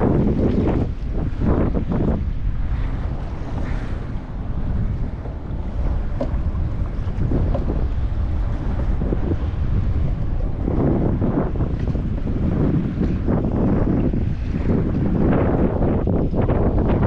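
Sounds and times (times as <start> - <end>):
water splashing around kayak: 0.0 - 17.0
wind buffeting microphone: 0.0 - 17.0.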